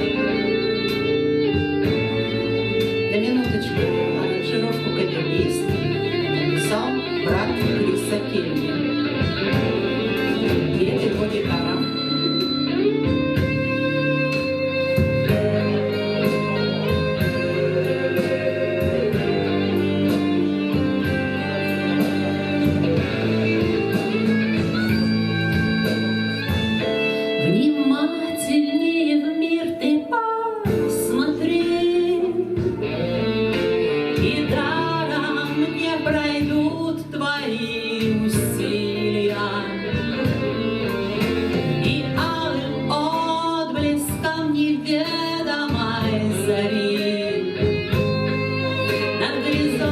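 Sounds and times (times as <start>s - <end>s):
guitar playing: 0.0s - 49.9s
person singing: 0.0s - 49.9s.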